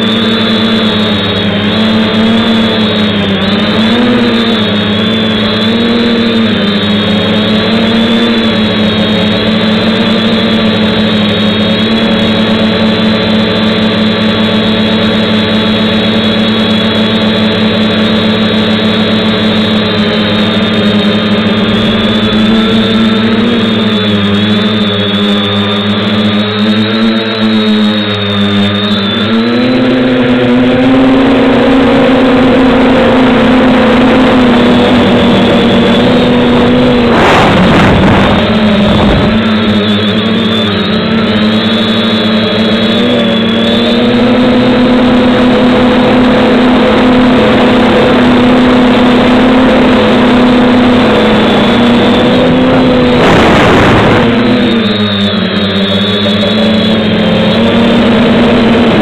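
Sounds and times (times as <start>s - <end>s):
quadcopter motors buzzing: 0.0s - 59.0s.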